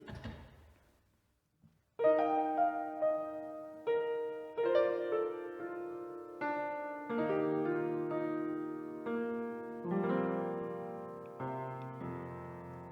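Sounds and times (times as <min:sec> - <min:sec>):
soft piano chords: 0:02.0 - 0:12.9.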